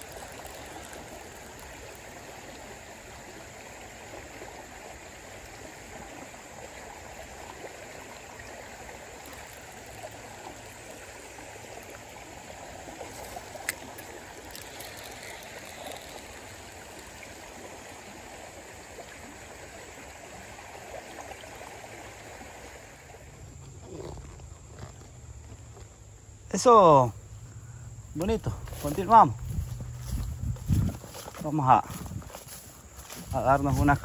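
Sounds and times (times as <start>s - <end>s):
river current rippling: 0.0s - 34.0s.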